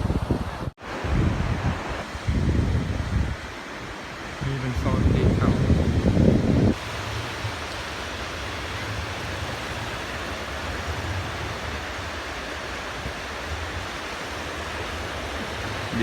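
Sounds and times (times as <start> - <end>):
sea surf: 0.0 - 16.0
wind: 0.0 - 16.0
wind rumble on microphone: 0.0 - 16.0.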